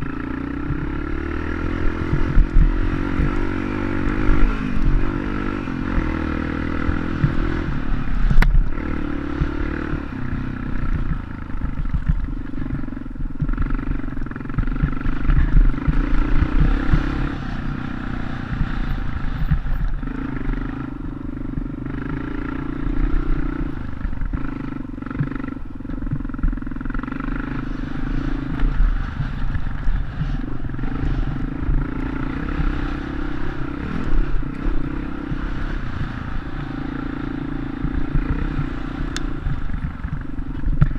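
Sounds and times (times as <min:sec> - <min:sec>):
dirt bike engine running: 0:00.0 - 0:40.9
low rumbling and clatter: 0:00.0 - 0:40.9.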